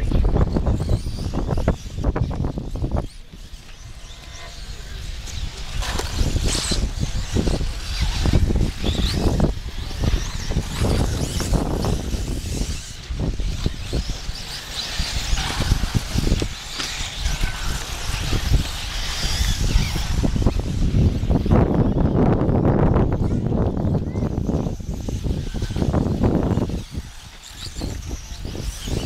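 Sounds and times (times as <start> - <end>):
rc buggies racing: 0.0 - 29.0.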